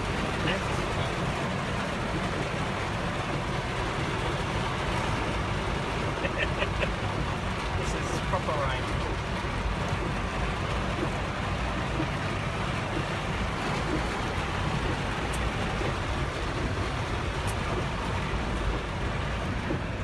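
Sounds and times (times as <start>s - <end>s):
heavy rain on car roof: 0.0s - 20.0s.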